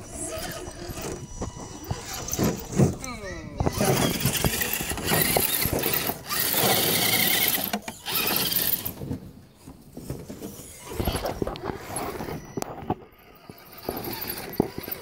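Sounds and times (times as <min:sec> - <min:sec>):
electric motor whirring: 0:00.0 - 0:03.0, 0:03.6 - 0:09.0, 0:10.4 - 0:15.0.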